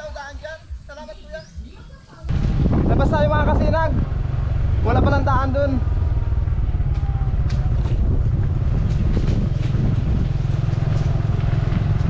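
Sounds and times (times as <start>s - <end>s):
vehicle engine running: 2.3s - 12.0s.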